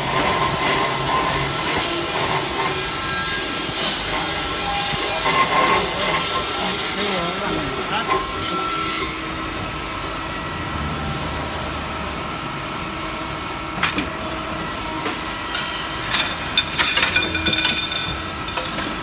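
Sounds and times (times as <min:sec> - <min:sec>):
pipe cutting machine whirring: 0:00.0 - 0:16.8.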